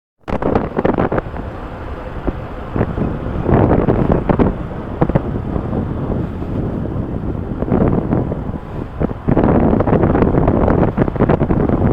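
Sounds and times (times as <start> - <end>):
wind buffeting microphone: 0.2 - 11.9.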